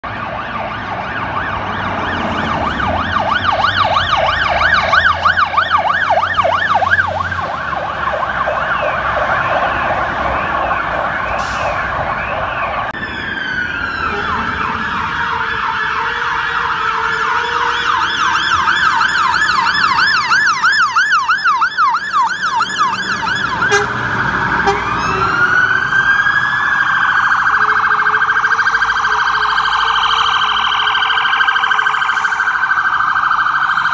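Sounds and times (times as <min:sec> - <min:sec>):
fire engine sirens: 0:00.0 - 0:33.9.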